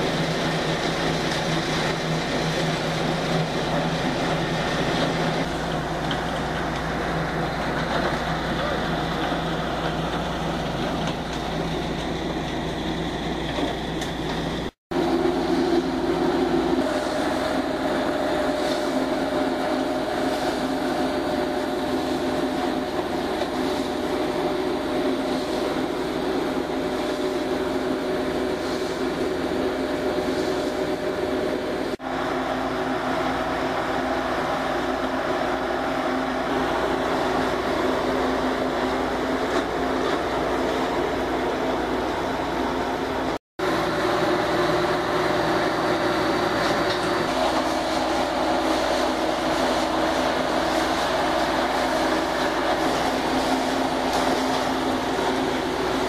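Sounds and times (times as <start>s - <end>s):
machinery running with hum: 0.0s - 56.0s.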